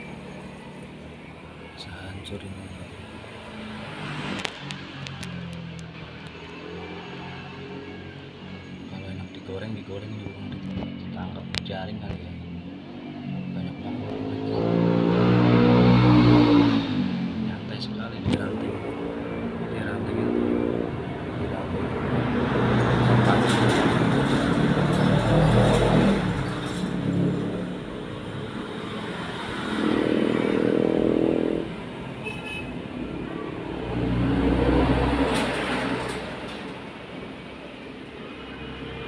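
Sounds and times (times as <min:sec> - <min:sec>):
steady traffic hum: 0:00.0 - 0:39.0
vehicles passing on road: 0:00.0 - 0:39.0.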